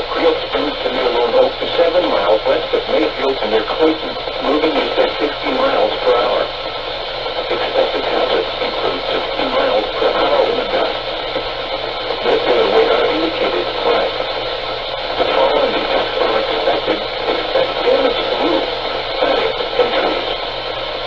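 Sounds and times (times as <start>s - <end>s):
muffled radio voice: 0.0s - 6.6s, 7.3s - 20.5s
radio static hiss: 0.0s - 21.0s.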